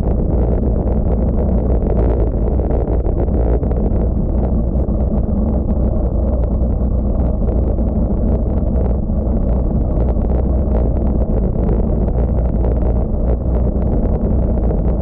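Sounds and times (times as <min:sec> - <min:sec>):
bicycle tyre road rumble: 0:00.0 - 0:15.0
wind buffeting microphone: 0:00.0 - 0:15.0.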